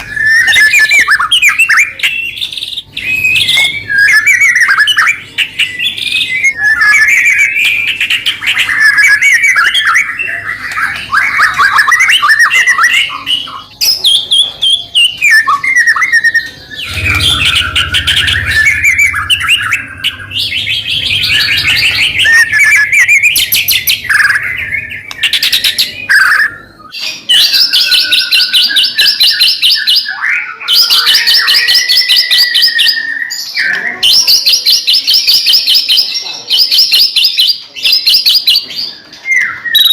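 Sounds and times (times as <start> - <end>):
songbird singing: 0.0 - 35.8.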